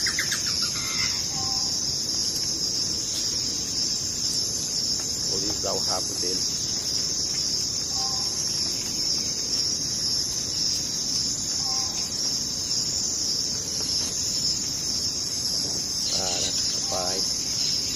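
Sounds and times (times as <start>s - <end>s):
crickets trilling: 0.0s - 17.9s.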